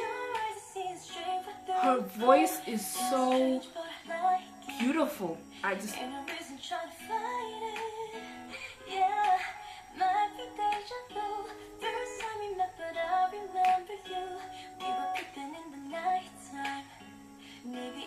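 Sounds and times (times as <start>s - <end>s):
pop ballad woman singing: 0.0s - 18.0s.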